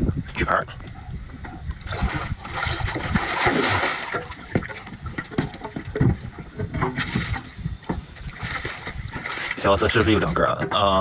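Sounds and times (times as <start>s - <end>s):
water splashing: 1.5s - 11.0s.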